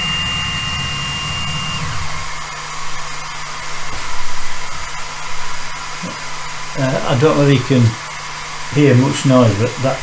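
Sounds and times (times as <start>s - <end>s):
fan humming: 0.0s - 10.0s
stepper motors whining: 0.0s - 10.0s.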